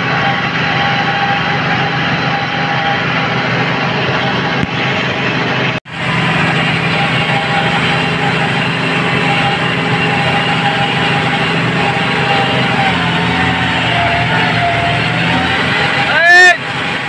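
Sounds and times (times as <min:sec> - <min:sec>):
steady high whine: 0:00.0 - 0:17.0
tractor engine running: 0:00.0 - 0:17.0.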